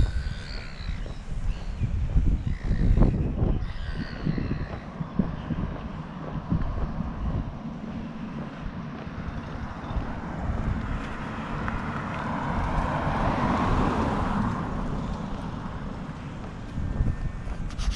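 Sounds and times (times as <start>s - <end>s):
vehicle passing on road: 0.0s - 17.9s
wind rumble on microphone: 0.0s - 17.9s.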